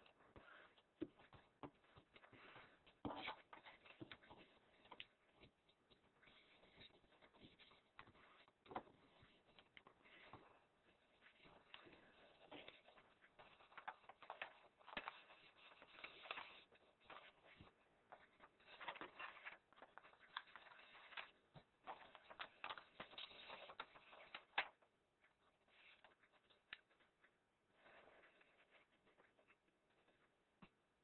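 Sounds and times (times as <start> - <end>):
paper rustling and crinkling: 0.0 - 30.3.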